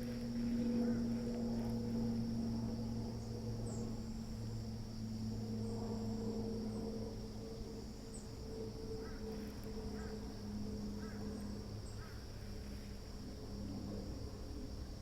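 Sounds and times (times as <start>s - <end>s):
crickets chirring: 0.0s - 15.0s
steady low hum: 0.0s - 15.0s.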